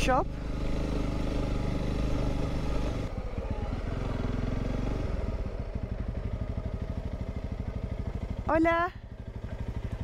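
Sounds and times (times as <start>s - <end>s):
motorcycle engine pulsing: 0.0s - 10.0s.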